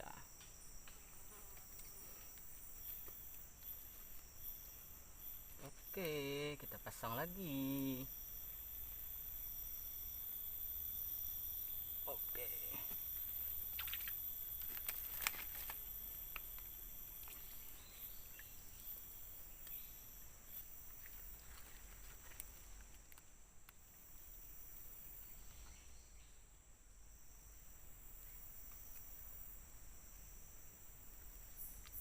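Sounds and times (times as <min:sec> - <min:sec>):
forest insects chorus: 0:00.0 - 0:32.0.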